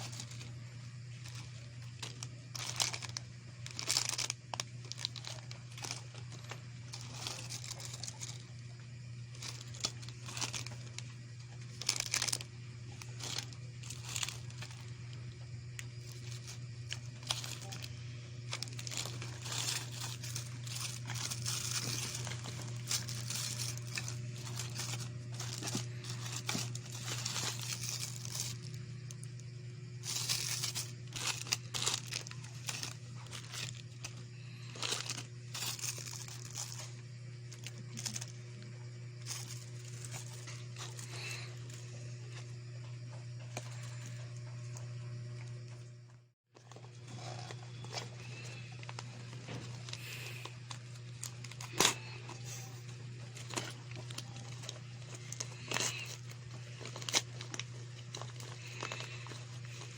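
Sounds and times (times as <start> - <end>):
packaging crinkling and tearing: 0.0 - 29.4, 30.0 - 38.4, 39.2 - 42.4, 46.6 - 59.9
steady low hum: 0.0 - 59.9.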